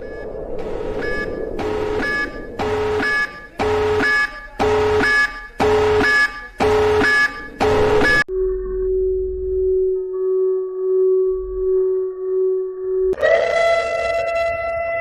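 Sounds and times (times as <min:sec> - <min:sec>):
harsh multi-tone alarm beeps: 0:00.0 - 0:14.3
steady low alarm tone: 0:00.0 - 0:15.0.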